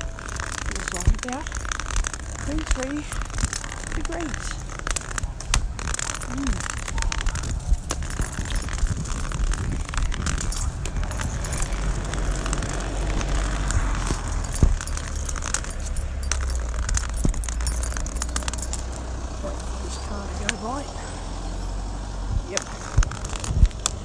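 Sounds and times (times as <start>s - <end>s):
rustling handling noise: 0.0s - 19.2s, 22.3s - 24.0s
clicks and jingles: 0.0s - 21.6s, 22.2s - 24.0s
low steady rumble: 0.0s - 24.0s.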